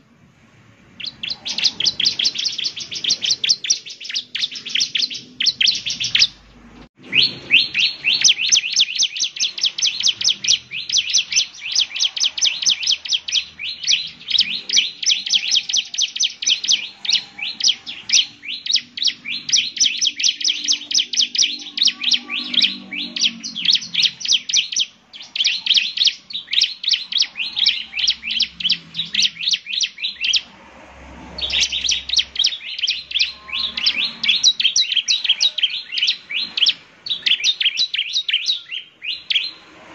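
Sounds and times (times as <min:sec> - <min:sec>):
bird singing high chirps: 0:01.0 - 0:39.9.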